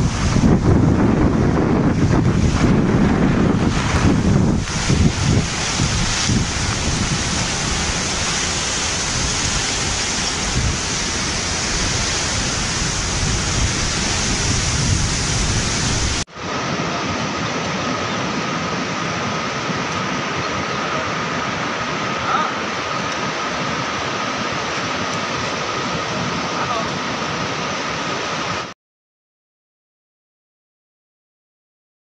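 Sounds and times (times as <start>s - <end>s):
wind buffeting microphone: 0.0s - 28.7s
heavy rain: 0.0s - 28.8s.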